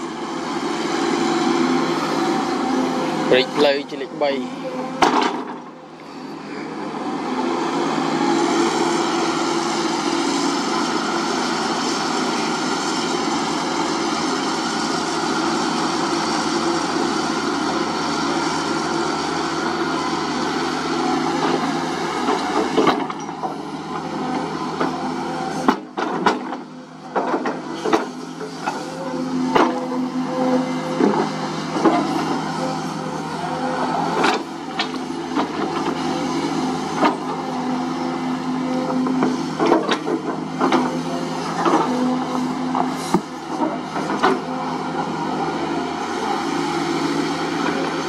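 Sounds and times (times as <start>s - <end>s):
excavator engine and hydraulics: 0.0s - 48.0s.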